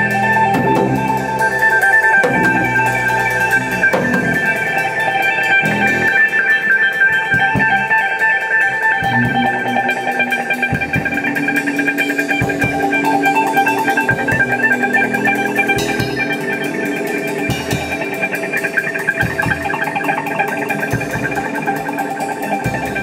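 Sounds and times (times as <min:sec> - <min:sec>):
low bass notes: 0:00.0 - 0:06.3, 0:09.0 - 0:23.0
guitar notes: 0:00.0 - 0:23.0
percussion hits: 0:00.0 - 0:23.0.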